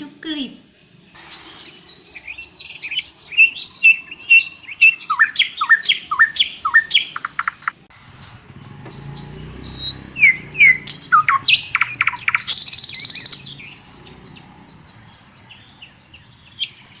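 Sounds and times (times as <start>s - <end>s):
birds chirping and calling: 0.4s - 17.0s
high buzzy bird trill: 0.8s - 17.0s.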